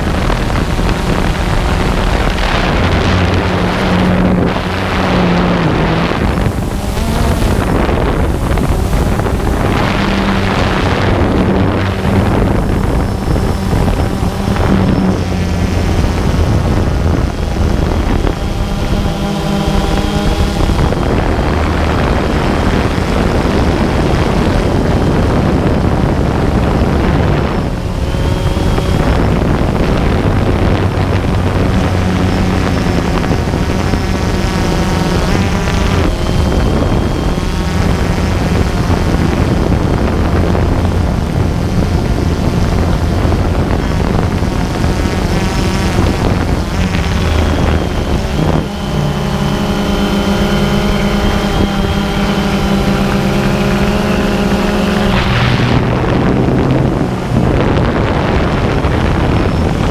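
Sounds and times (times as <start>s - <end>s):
drone propellers whirring: 0.0s - 59.9s
wind on microphone: 0.0s - 59.9s.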